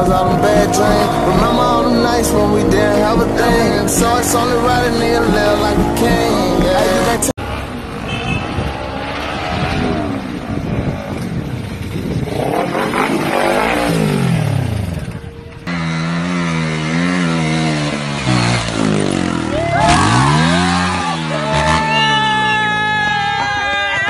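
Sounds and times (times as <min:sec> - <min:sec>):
engine with wavering pitch: 0:00.0 - 0:23.4
motorcycle engines revving: 0:00.0 - 0:24.0.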